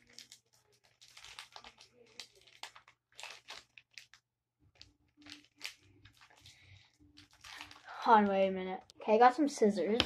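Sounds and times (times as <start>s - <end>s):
foil pack crinkling: 0.0s - 8.4s.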